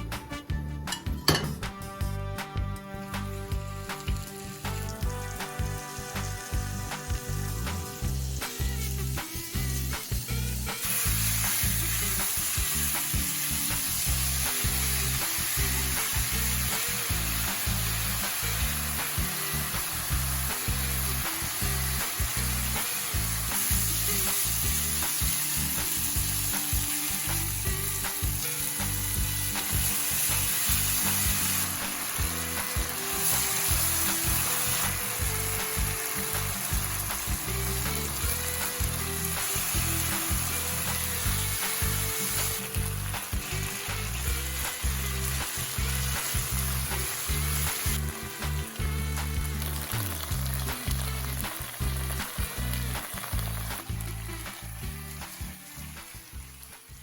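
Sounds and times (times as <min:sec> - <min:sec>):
background music: 0:00.0 - 0:57.0
food sizzling in a frying pan: 0:03.0 - 0:57.0.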